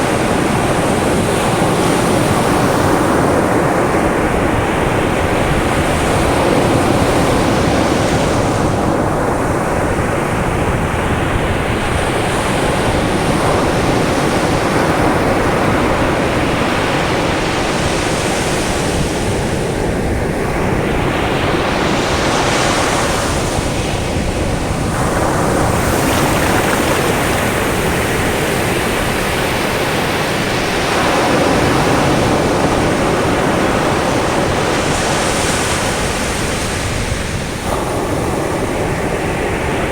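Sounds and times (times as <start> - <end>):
sea surf breaking on beach: 0.0 - 39.9.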